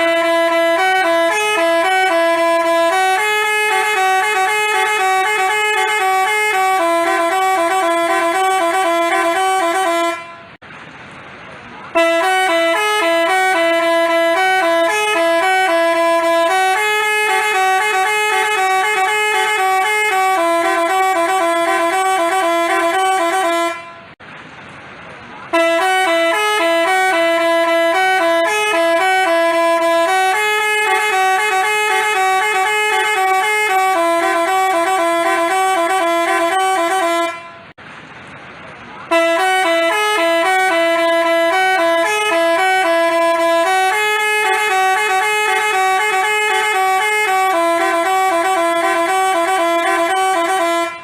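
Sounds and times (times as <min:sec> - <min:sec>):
bus horn playing melody: 0:00.0 - 0:10.6, 0:11.9 - 0:24.2, 0:25.5 - 0:37.8, 0:39.0 - 0:51.0.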